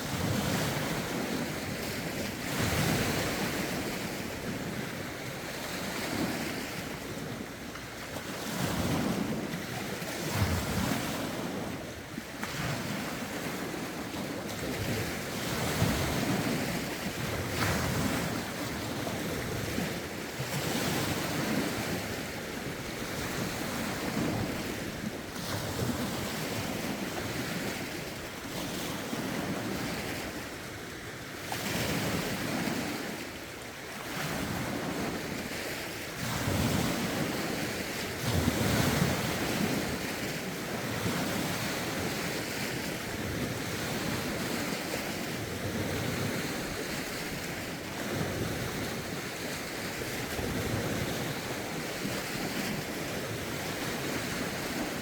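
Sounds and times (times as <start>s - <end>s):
lake waves lapping ashore: 0.0s - 55.0s.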